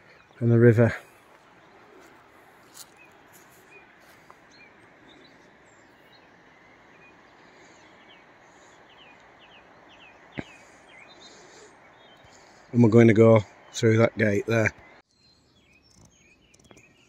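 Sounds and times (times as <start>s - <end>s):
faint outdoor hiss: 0.0s - 17.0s
small bird chirping: 0.1s - 12.8s, 13.4s - 17.0s.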